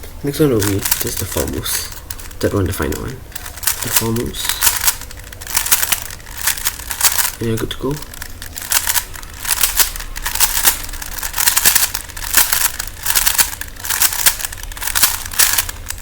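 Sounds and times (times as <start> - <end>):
plastic puzzle cube clicking: 0.6 - 16.0.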